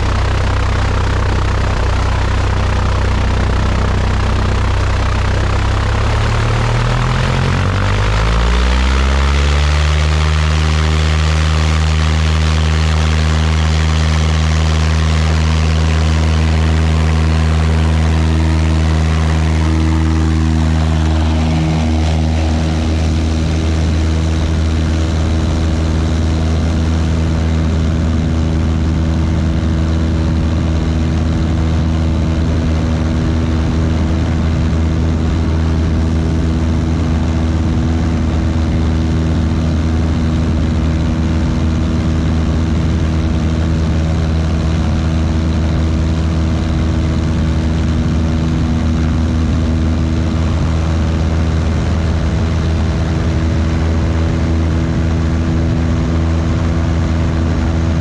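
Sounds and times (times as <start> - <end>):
propeller plane engine: 0.0 - 58.0
wheels rumbling on grass: 0.0 - 58.0.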